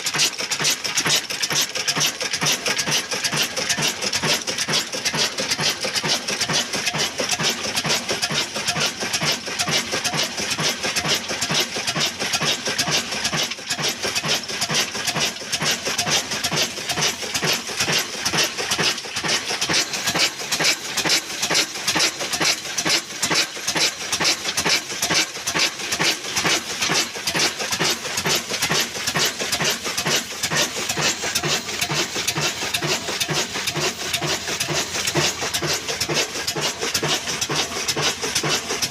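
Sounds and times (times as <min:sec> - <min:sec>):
diesel engine running steadily: 0:00.0 - 0:38.9.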